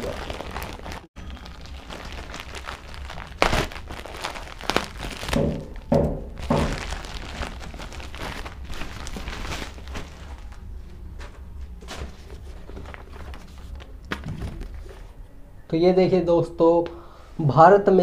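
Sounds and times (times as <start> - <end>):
plastic mailer tearing and crinkling: 0.0 - 14.9.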